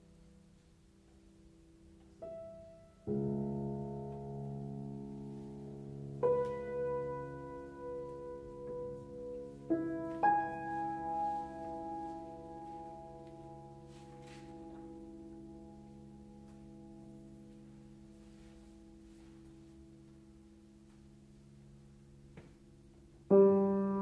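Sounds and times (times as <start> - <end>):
grand piano chords: 0.0 - 24.0.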